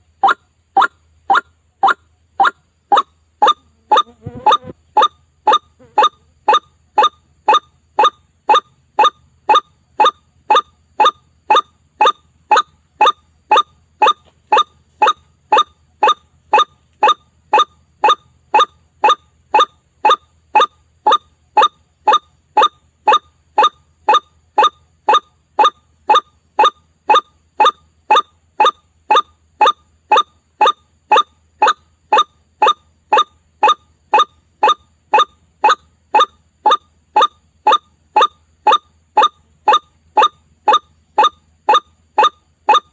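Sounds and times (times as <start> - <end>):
waterhen call repeated: 0.2 - 42.9.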